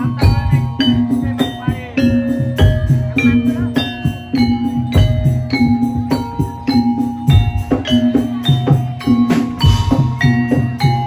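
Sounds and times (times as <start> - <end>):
bronze metallophones ringing: 0.0 - 11.0.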